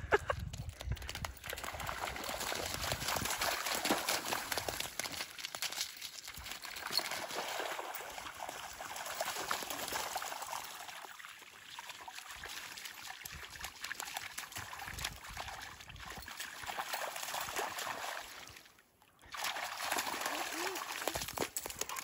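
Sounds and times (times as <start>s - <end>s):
dogs splashing in water: 1.0s - 18.7s, 19.3s - 22.0s.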